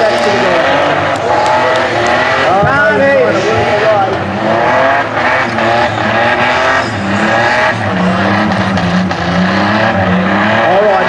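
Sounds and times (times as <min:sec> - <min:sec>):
car engine revving high: 0:00.0 - 0:11.0
tyres spinning and squealing: 0:00.0 - 0:11.0.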